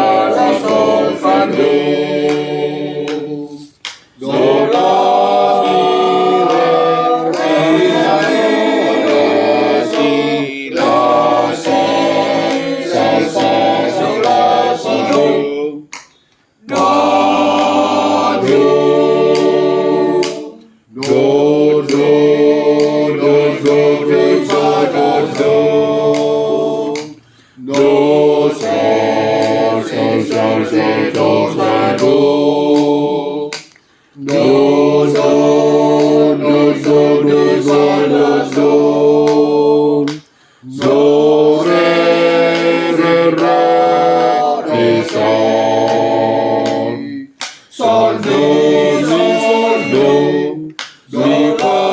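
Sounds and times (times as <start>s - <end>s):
men's choir singing a cappella: 0.0s - 51.9s.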